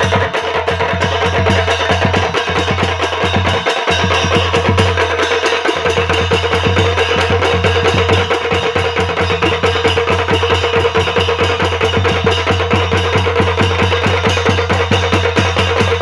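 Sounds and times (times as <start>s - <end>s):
hand cymbals clashing: 0.0s - 16.0s
small drums beaten with sticks: 0.0s - 16.0s.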